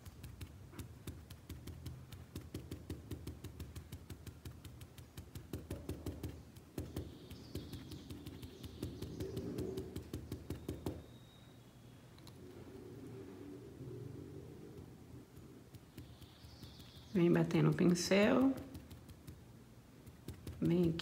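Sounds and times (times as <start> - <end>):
paintbrush tapping on cloth: 0.0 - 11.1, 14.7 - 21.0.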